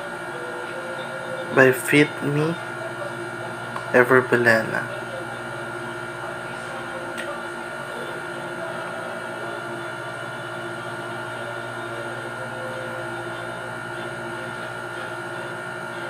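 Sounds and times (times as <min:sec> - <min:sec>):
constant hum tones: 0:00.0 - 0:16.0.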